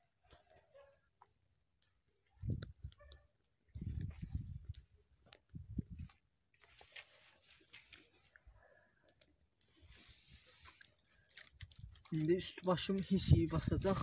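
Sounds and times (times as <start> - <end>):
small fire crackling: 0.0 - 14.0.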